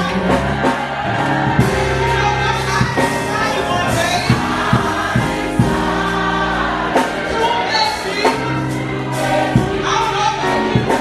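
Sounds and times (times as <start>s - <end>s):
gospel choir with instrumental backing: 0.0s - 11.0s.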